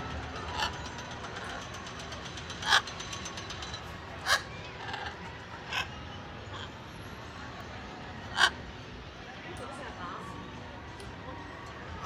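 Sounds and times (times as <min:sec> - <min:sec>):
low background murmur: 0:00.0 - 0:12.0.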